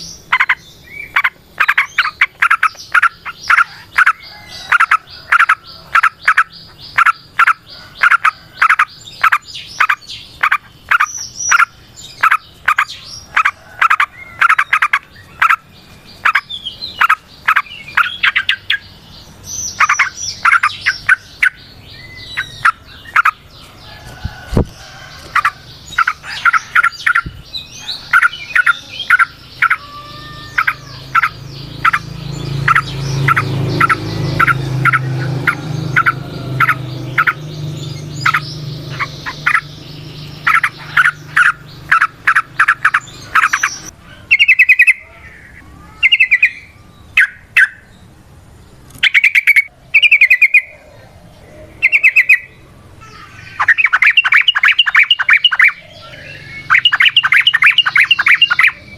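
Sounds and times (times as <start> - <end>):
bird chattering song: 0.0 - 58.9.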